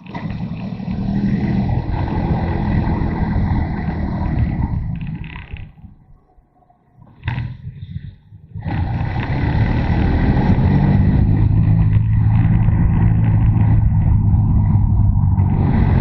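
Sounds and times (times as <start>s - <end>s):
motorcycle engine under throttle: 0.0s - 5.9s, 7.2s - 16.0s.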